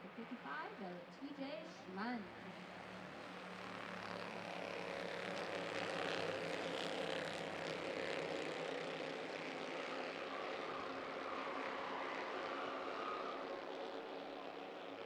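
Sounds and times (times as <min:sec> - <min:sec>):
race car engines buzzing: 0:02.4 - 0:15.0.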